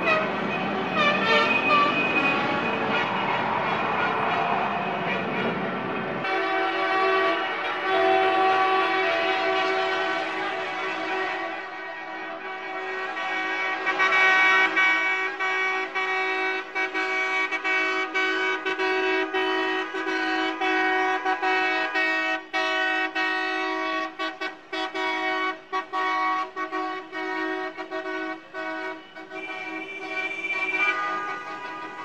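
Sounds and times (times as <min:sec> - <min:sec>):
car horns honking: 0:00.0 - 0:03.3, 0:04.8 - 0:32.0.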